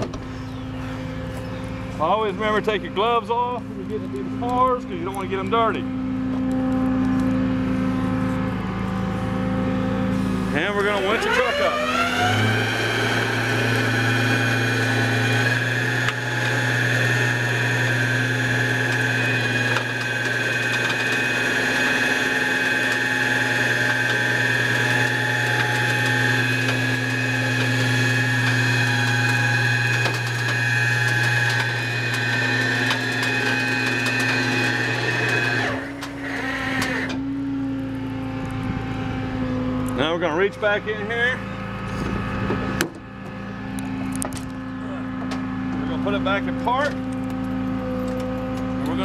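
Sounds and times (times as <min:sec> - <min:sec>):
hydraulic winch whine: 0:00.0 - 0:49.0
truck engine running: 0:00.0 - 0:49.0.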